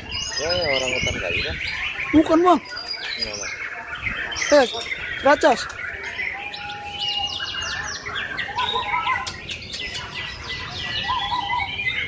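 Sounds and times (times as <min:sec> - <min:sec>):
songbirds singing whistled trills: 0:00.0 - 0:12.0.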